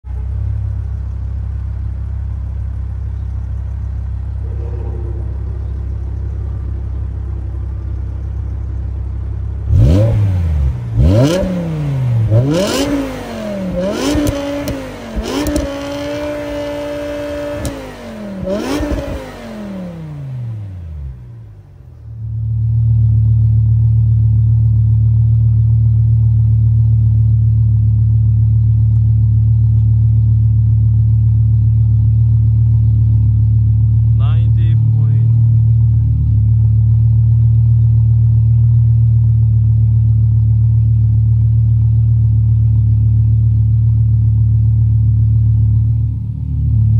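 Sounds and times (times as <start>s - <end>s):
car engine idling and revving: 0.0s - 46.9s
loud car engine idling: 0.1s - 46.9s.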